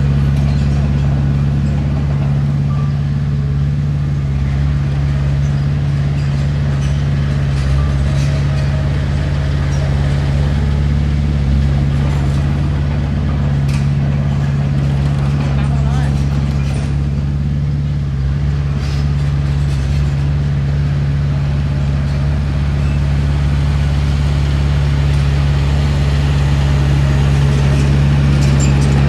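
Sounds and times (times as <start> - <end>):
heavy diesel engine droning: 0.0 - 29.0.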